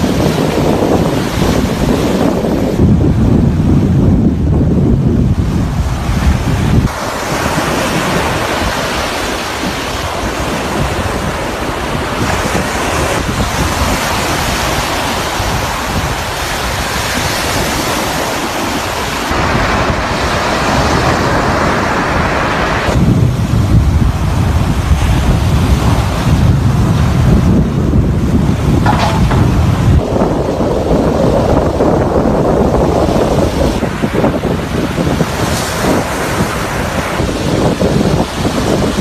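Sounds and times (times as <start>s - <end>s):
surf breaking on beach: 0.0s - 39.0s
wind buffeting microphone: 0.0s - 39.0s.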